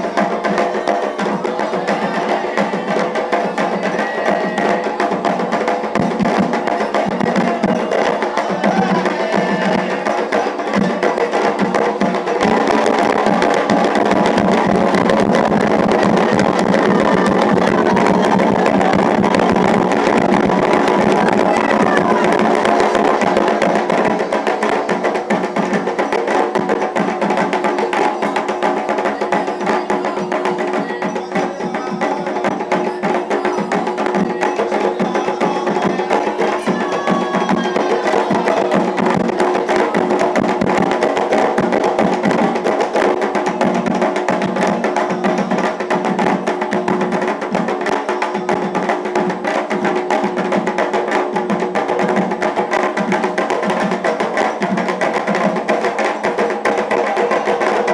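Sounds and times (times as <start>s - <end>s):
hand drums: 0.0s - 57.9s
sharp clacking percussion: 0.0s - 57.9s.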